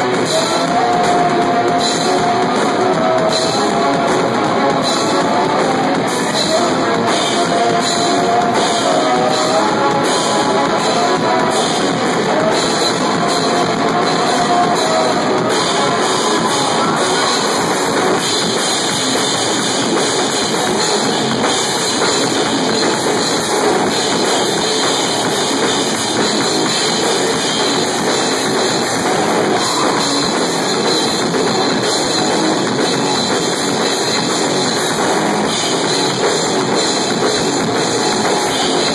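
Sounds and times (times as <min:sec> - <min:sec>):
drum kit: 0:00.0 - 0:38.9
electric guitar: 0:00.0 - 0:38.9.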